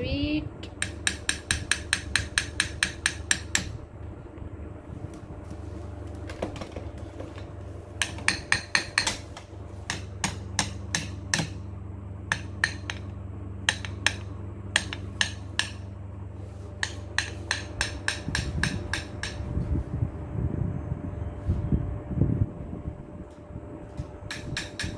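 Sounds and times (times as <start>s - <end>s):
low rumbling: 0.0s - 24.9s
steady low hum: 0.0s - 24.9s.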